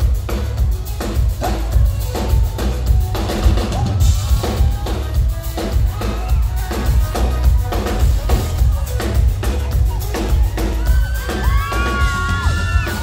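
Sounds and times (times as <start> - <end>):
drum kit beat: 0.0 - 13.0
heavy bass: 0.0 - 13.0.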